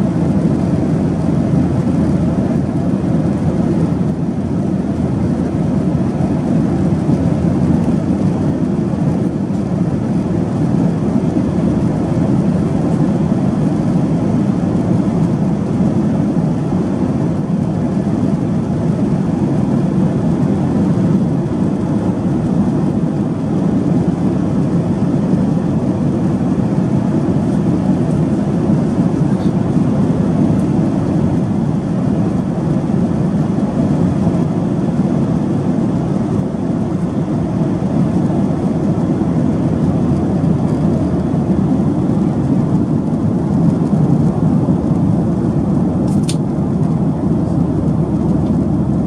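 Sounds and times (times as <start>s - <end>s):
airplane cabin noise: 0.0s - 49.0s.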